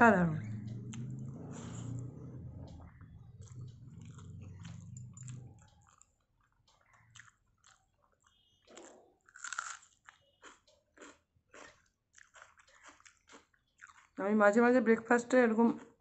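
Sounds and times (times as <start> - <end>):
person chewing: 0.7 - 14.2.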